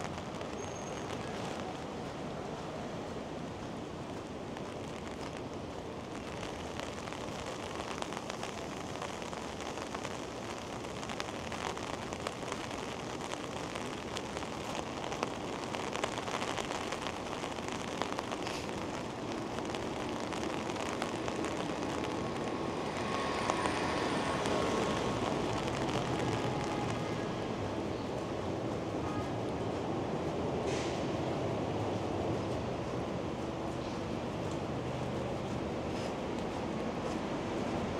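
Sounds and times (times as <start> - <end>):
rain on hard surfaces: 0.0 - 37.9.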